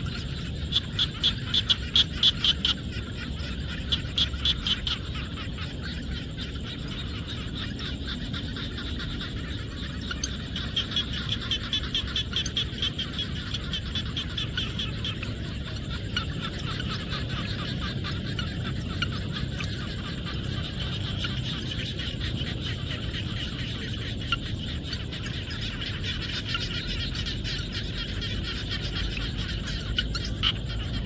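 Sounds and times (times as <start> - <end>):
frogs croaking: 0.0 - 31.0.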